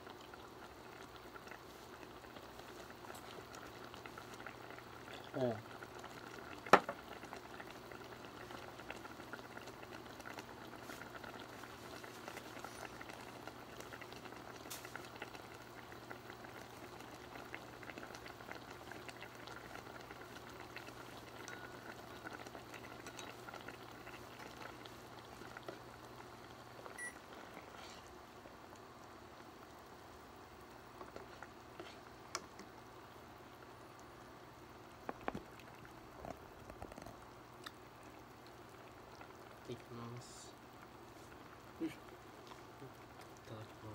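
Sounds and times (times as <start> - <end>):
pot simmering and bubbling: 0.0 - 43.9.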